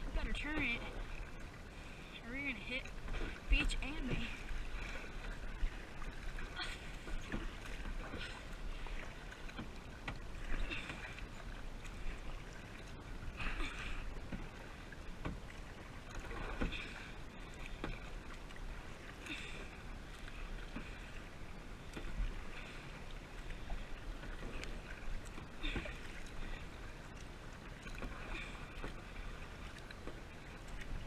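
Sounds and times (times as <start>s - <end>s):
paddle strokes splashing water: 0.0s - 31.0s.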